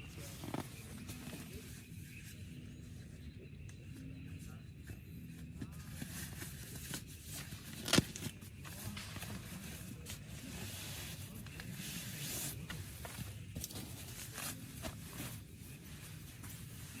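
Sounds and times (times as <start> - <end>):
rustling and scraping of gear: 0.0 - 2.9, 5.4 - 17.0.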